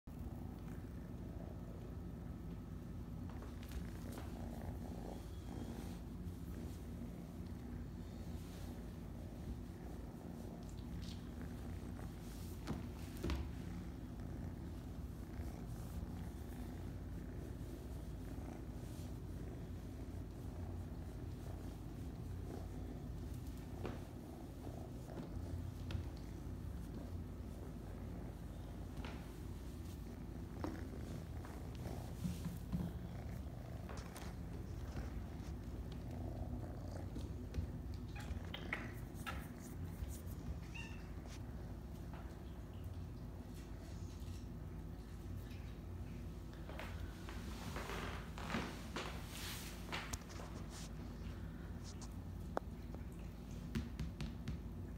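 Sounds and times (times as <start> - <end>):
kitten purring: 0.1 - 54.9.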